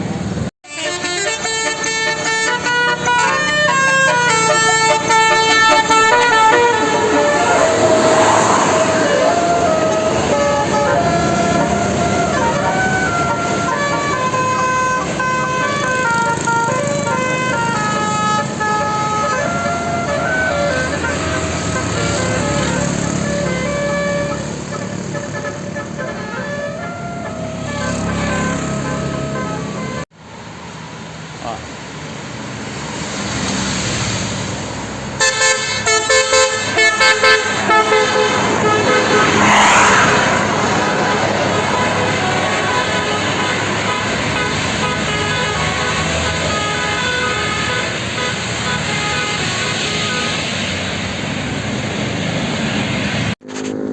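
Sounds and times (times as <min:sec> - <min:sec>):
traffic noise: 0:00.0 - 0:53.9
vehicle noise: 0:00.0 - 0:53.9
multi-tone musical bus horn: 0:00.6 - 0:30.1, 0:35.2 - 0:51.3.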